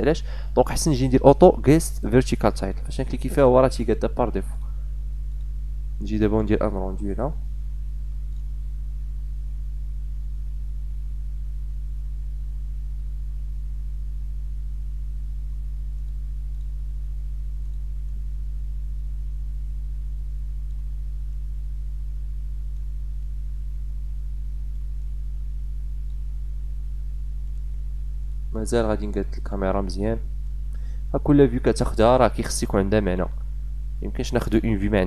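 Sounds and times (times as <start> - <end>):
mains hum: 0.0 - 35.0.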